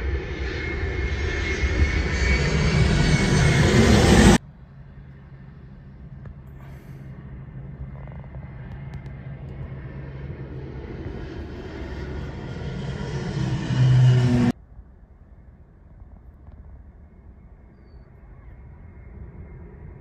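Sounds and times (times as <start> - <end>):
propeller airplane drone: 0.0 - 20.0.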